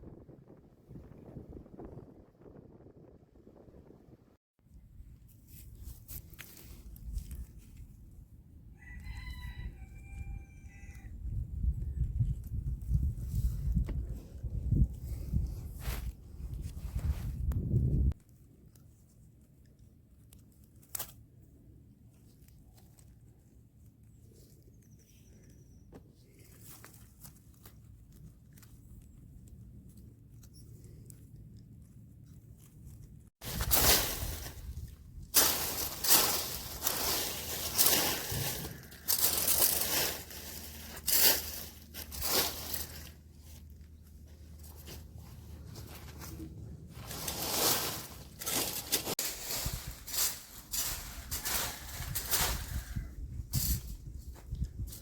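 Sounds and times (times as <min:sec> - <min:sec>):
rustling and crunching vegetation: 0:04.6 - 0:55.0.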